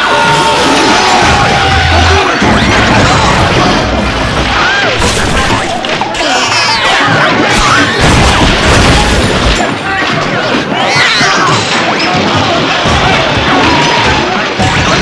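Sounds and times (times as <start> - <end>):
cartoon crashes and bangs: 0.8 - 15.0.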